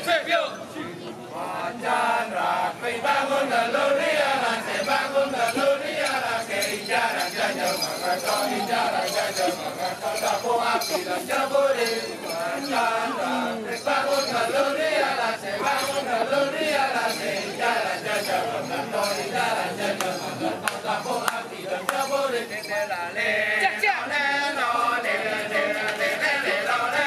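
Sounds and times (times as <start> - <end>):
male chorus chanting: 1.3 - 27.0
bells jingling: 3.2 - 27.0.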